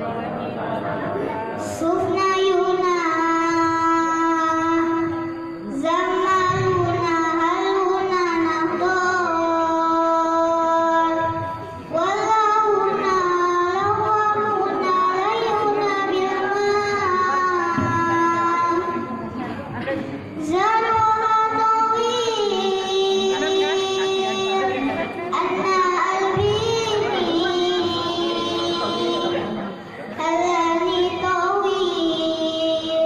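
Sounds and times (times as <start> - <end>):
child singing into microphone: 0.0 - 33.0.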